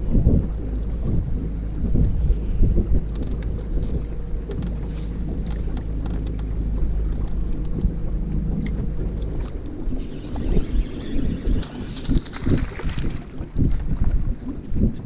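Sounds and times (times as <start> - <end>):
electric motor hum: 0.0 - 14.1
wind buffeting microphone: 0.0 - 15.0.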